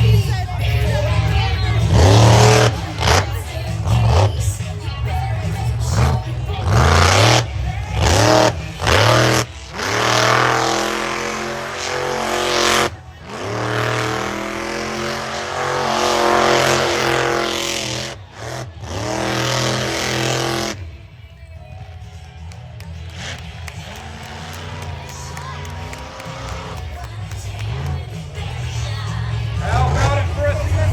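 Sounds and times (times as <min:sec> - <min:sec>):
truck engine revving hard: 0:00.0 - 0:30.9.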